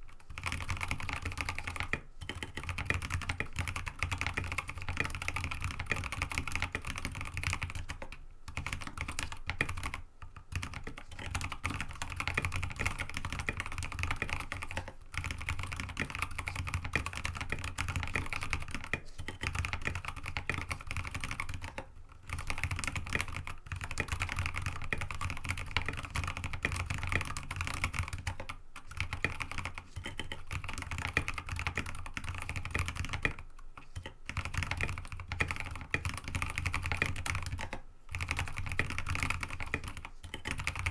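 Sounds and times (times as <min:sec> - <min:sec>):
mechanical keyboard typing: 0:00.1 - 0:40.9.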